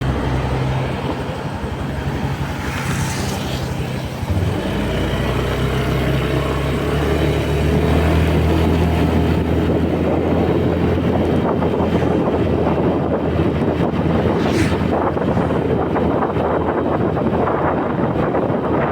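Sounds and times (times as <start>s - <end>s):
road and wind noise: 0.0s - 18.9s
scooter engine running: 0.0s - 18.9s.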